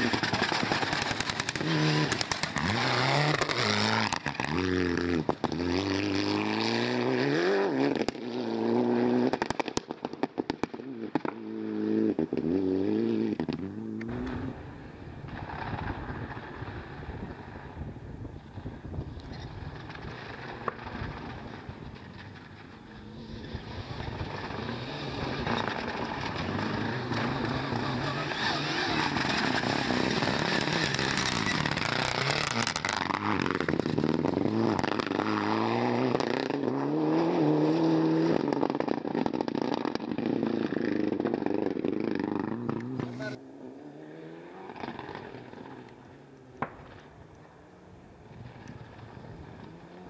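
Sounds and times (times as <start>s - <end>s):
rally car engine revving: 0.0s - 9.8s, 10.6s - 14.7s, 19.8s - 46.7s.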